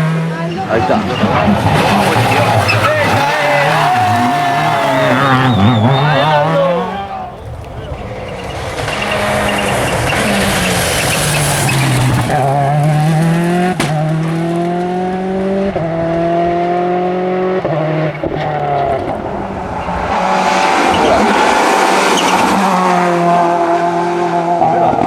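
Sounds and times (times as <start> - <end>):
gear upshifts: 0.0 - 24.5
rally car engine accelerating: 0.0 - 25.0
tyre noise: 0.0 - 25.0.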